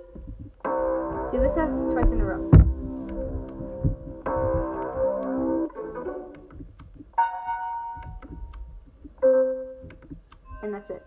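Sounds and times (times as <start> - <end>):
synth keyboard ringtone melody: 0.0 - 6.4, 7.2 - 8.6, 9.2 - 11.0.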